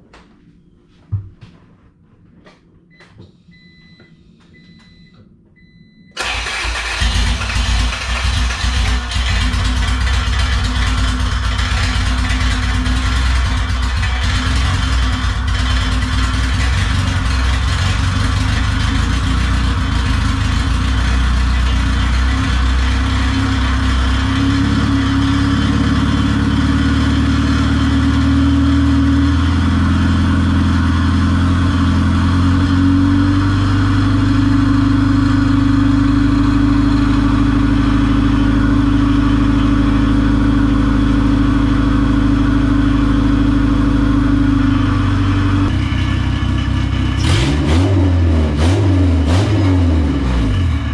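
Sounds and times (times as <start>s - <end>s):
car engine running: 6.2s - 50.9s.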